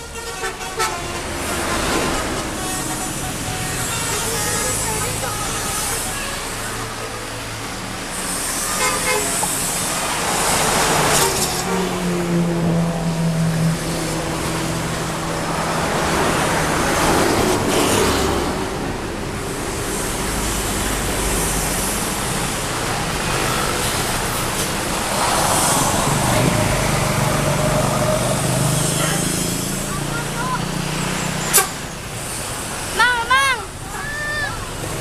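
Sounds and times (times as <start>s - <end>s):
vehicles driving past: 0.0s - 35.0s.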